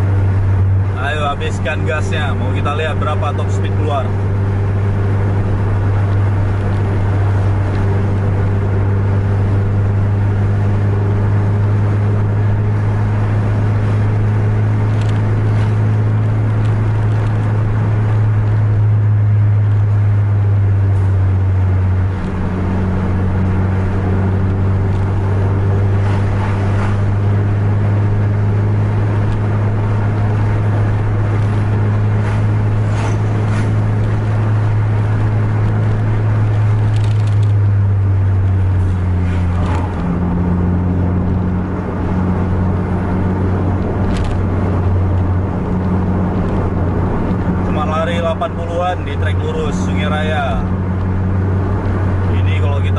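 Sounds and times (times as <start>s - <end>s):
car engine droning: 0.0s - 52.9s
tyre and road noise: 0.0s - 52.9s.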